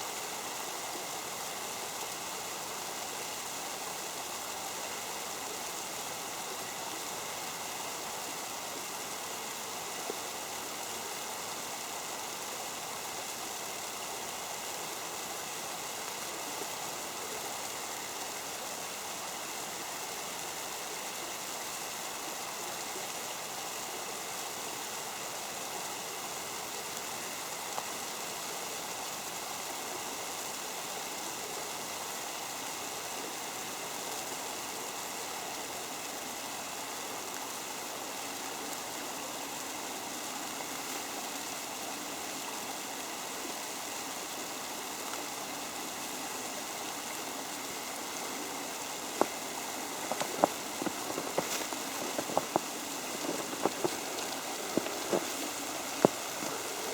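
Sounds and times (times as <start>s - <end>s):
creek water rushing: 0.0s - 56.9s.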